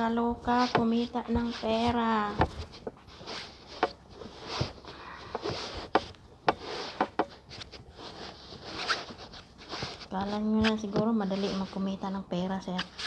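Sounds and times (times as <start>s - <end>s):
fabric rustling: 0.0s - 12.1s.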